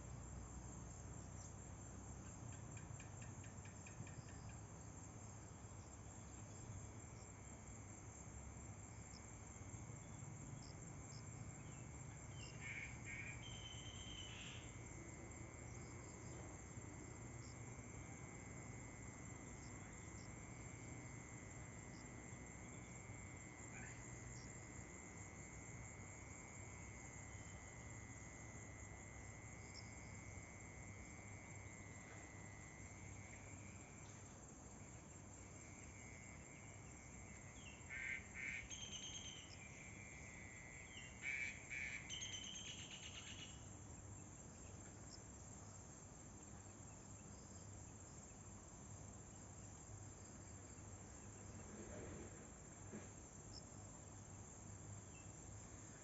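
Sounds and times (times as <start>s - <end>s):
high insect trill: 0.0s - 56.0s
low steady hiss: 0.0s - 56.0s.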